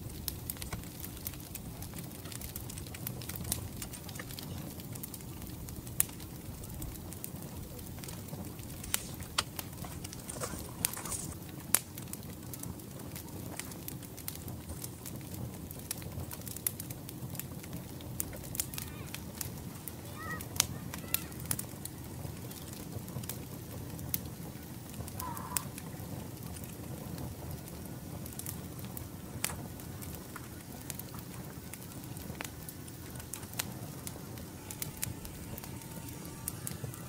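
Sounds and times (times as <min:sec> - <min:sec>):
campfire crackling and popping: 0:00.0 - 0:37.0
low rumble of flames: 0:00.0 - 0:37.0.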